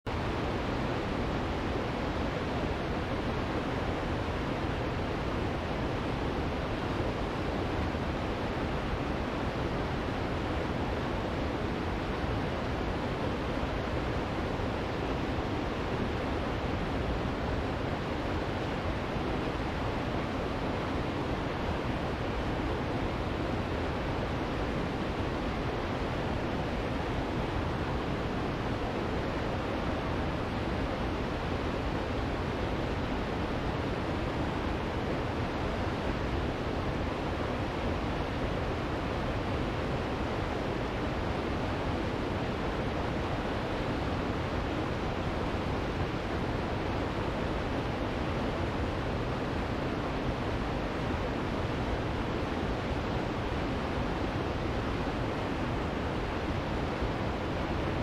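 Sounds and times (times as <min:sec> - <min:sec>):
waterfall rushing over rock: 0:00.1 - 0:58.0.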